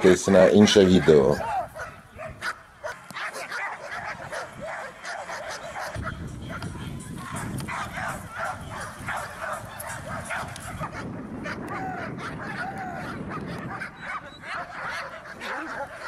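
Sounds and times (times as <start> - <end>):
dogs barking: 0.0 - 16.0
dog yelping: 0.9 - 6.6, 7.2 - 16.0.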